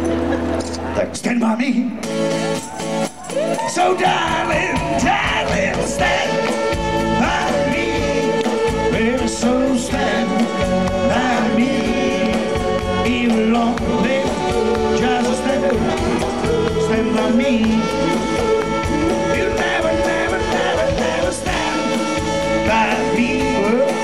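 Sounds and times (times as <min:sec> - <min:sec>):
electric bass: 0:00.0 - 0:24.0
drums: 0:01.5 - 0:24.0
acoustic guitar: 0:02.0 - 0:24.0
men singing together: 0:03.7 - 0:24.0.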